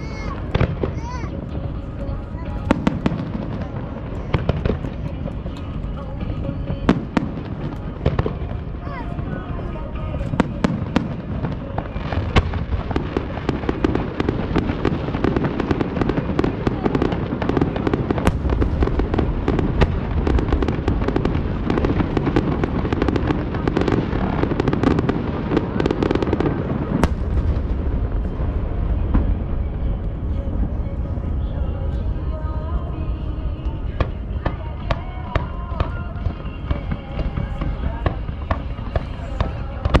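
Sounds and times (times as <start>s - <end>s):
loud firework bangs: 0.0s - 30.3s, 31.4s - 40.0s
fireworks crackling and popping: 0.0s - 40.0s.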